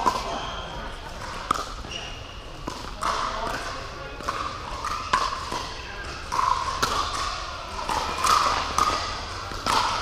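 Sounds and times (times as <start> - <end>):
paddles hitting plastic ball: 0.0 - 0.4, 1.1 - 2.0, 2.6 - 10.0.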